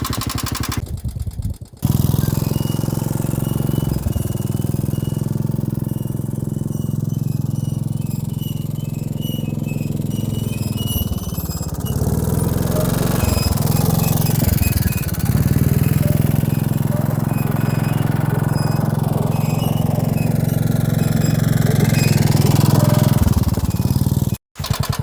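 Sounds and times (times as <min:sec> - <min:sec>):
three-wheeler engine running: 0:00.0 - 0:25.0.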